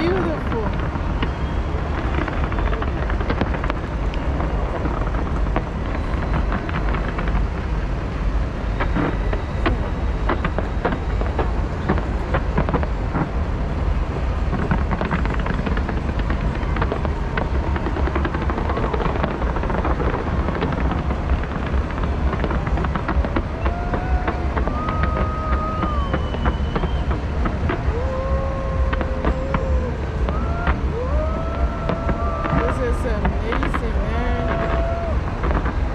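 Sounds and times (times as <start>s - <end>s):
fireworks rumbling and cracking: 0.0s - 35.9s.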